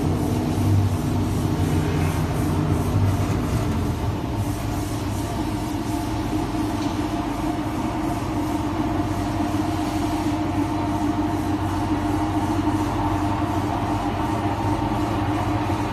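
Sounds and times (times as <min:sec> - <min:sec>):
fiber machine droning: 0:00.0 - 0:15.9.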